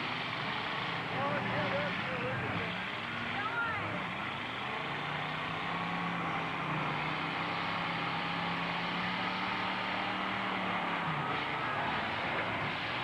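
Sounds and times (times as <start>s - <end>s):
truck engines running: 0.0s - 13.0s.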